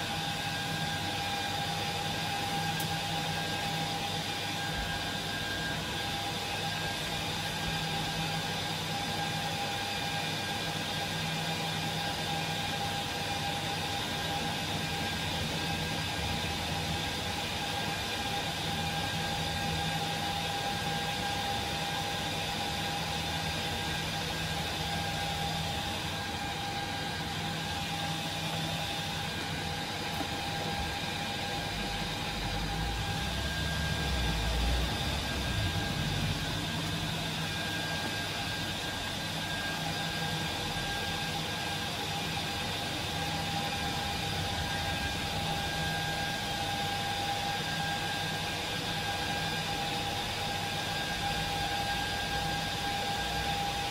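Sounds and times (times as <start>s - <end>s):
server cooling fans whining: 0.0s - 53.9s.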